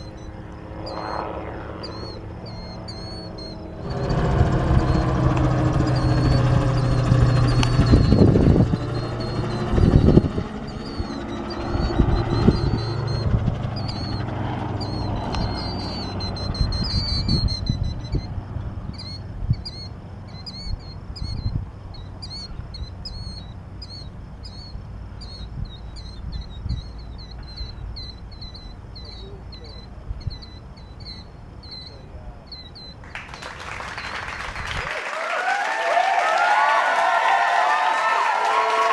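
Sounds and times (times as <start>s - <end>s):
bird chirping: 0.0s - 34.8s
wind buffeting microphone: 0.0s - 35.0s
aircraft engine droning: 0.0s - 38.9s.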